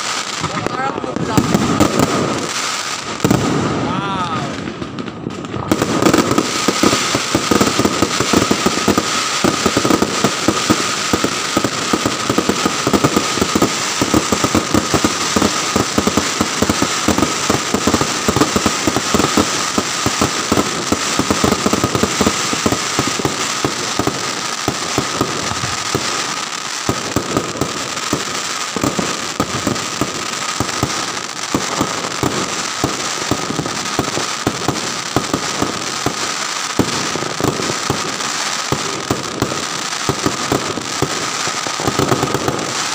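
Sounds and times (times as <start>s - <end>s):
fireworks crackling: 0.0s - 42.9s.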